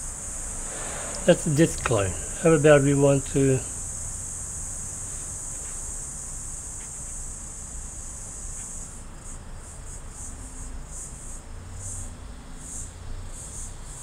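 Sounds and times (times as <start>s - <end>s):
shrill insect buzz: 0.0s - 14.0s.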